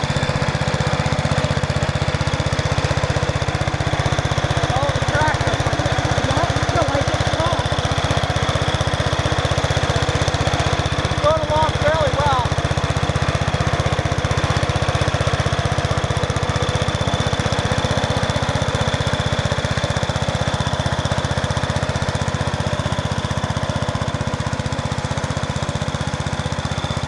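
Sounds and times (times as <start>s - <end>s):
garden tractor engine running: 0.0s - 27.0s.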